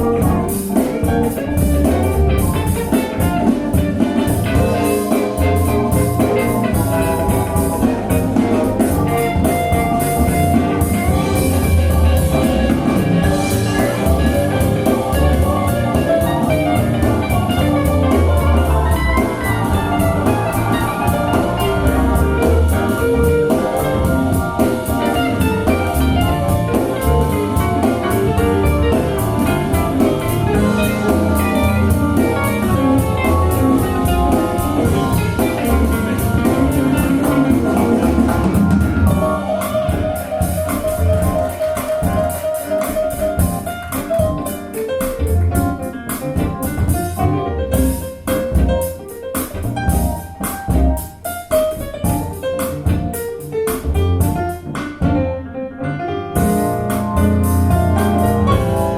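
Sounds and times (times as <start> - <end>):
music with beat and strong bass: 0.0 - 55.4, 56.4 - 58.9.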